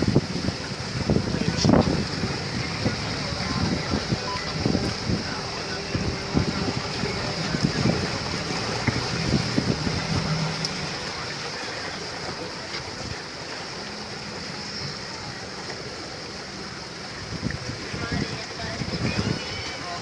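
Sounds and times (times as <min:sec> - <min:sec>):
boat running noise: 0:00.0 - 0:20.0
water lapping along hull: 0:00.0 - 0:20.0.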